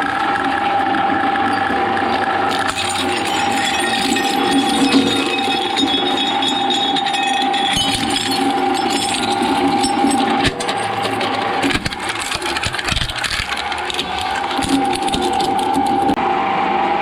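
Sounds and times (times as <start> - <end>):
shredder whining: 0.0 - 17.0
material clattering and cracking: 2.4 - 16.2.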